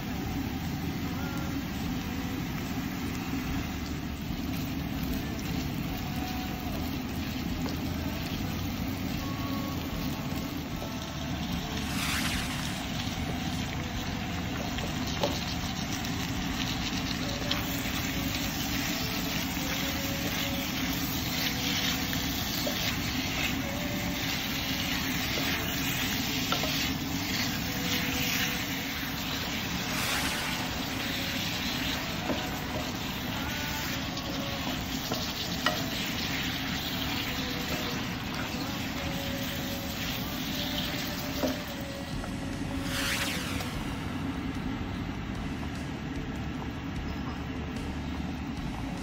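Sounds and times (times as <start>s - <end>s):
food sizzling in oil in a wok: 0.0s - 44.7s.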